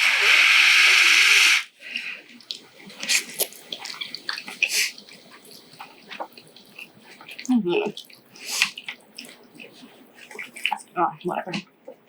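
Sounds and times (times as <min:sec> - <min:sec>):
noodles slurped: 0:00.0 - 0:12.0
chewing and wet mouth clicks: 0:01.9 - 0:12.0.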